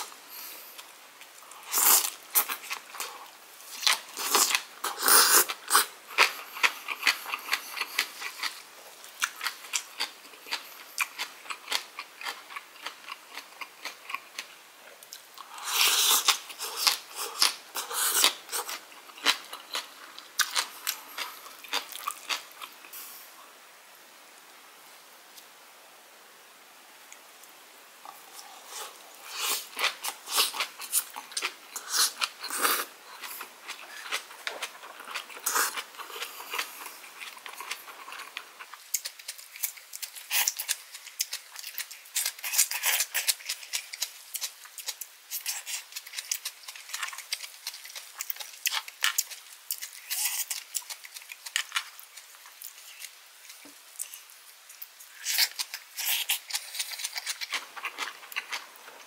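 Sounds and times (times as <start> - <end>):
crunchy wet chewing: 0.8 - 23.0, 28.0 - 59.0.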